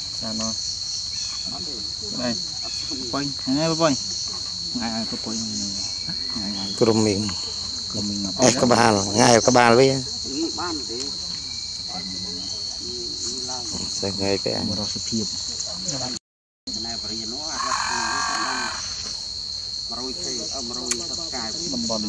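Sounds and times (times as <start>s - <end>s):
insect chorus droning: 0.0s - 22.0s.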